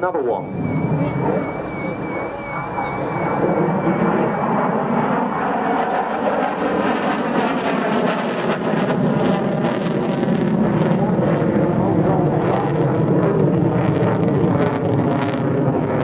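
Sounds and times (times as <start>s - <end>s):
jet engine roaring: 0.0s - 16.0s.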